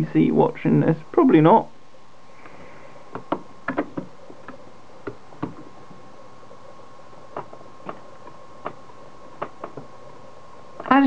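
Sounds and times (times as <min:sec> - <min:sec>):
faint high hum: 0:00.0 - 0:11.0.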